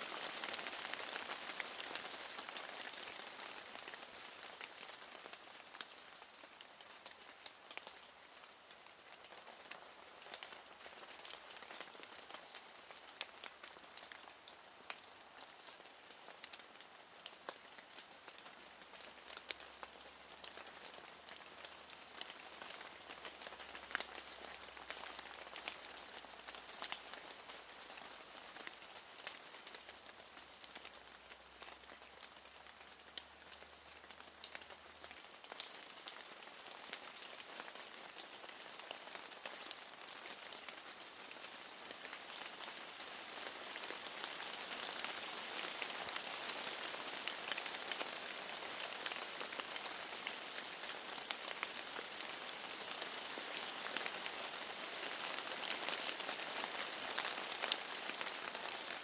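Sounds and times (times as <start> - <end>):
steady rain hiss: 0.0 - 59.0
raindrop ticks: 0.3 - 59.0.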